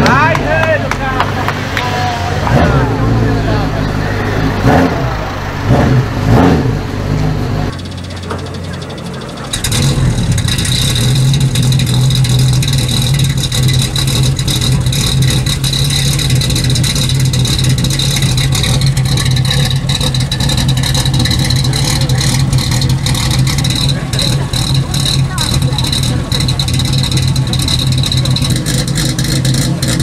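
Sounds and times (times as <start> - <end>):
car engine running: 0.0 - 30.0
high whine: 1.4 - 29.5.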